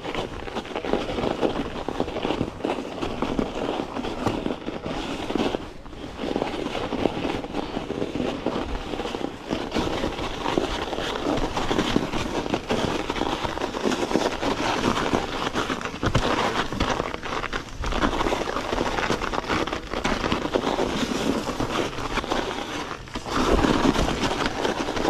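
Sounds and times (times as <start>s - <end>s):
bike tyres crunching on snow: 0.0s - 25.0s.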